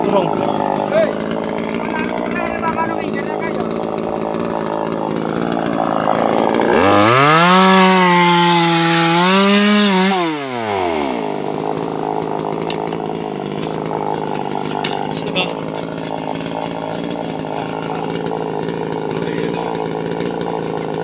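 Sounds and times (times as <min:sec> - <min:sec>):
chainsaw idling and revving: 0:00.0 - 0:21.0.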